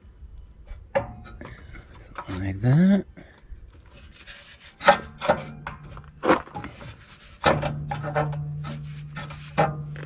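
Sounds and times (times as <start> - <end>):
steel knocking and scraping on steel: 0.6 - 2.7, 3.8 - 10.0.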